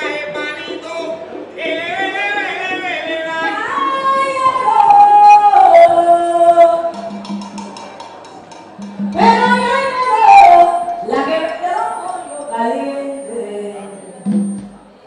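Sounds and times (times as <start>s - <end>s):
person singing unaccompanied: 0.0s - 7.5s, 8.8s - 14.8s.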